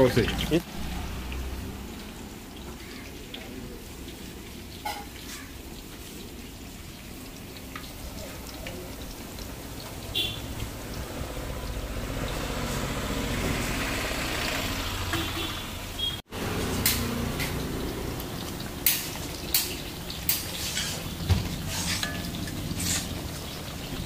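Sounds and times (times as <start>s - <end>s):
hot oil sizzling: 0.0s - 24.0s.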